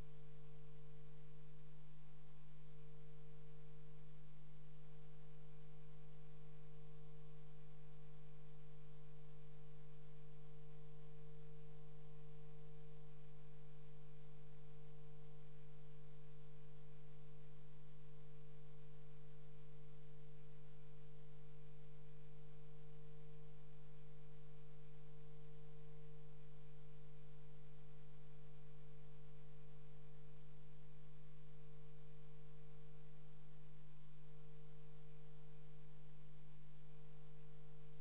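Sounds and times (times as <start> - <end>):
steady multi-tone hum: 0.0 - 38.0.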